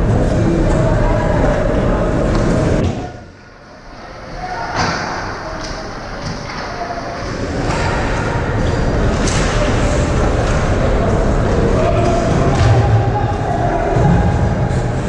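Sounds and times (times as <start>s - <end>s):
echoing hall rumble: 0.0s - 15.0s.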